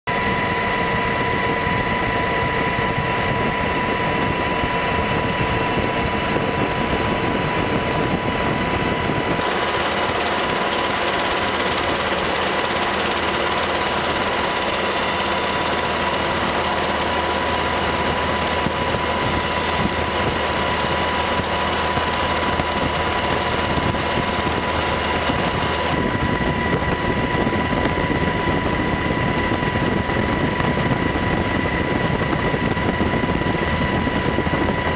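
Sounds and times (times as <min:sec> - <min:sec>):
helicopter in flight: 0:00.1 - 0:34.9.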